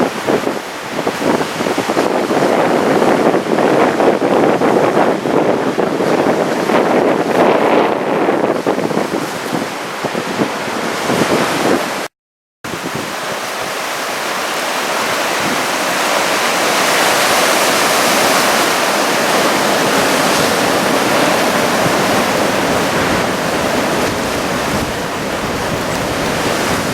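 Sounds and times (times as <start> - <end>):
heavy surf: 0.0 - 12.1, 12.7 - 26.9
wind buffeting microphone: 0.0 - 12.1, 12.7 - 26.9.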